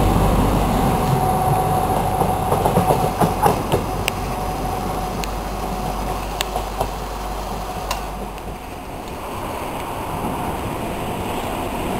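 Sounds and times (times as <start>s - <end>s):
diesel locomotive rumble with whine: 0.0s - 11.9s
wheels clicking on track: 0.0s - 11.9s.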